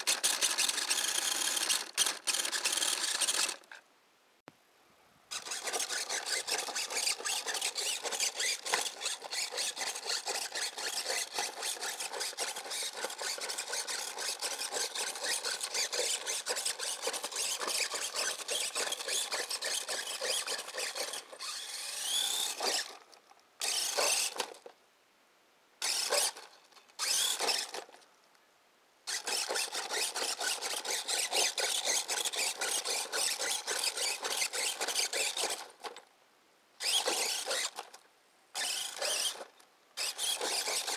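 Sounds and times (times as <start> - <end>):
rc car motor whining: 0.0 - 3.8, 5.3 - 24.7, 25.8 - 28.0, 29.1 - 36.0, 36.8 - 40.9.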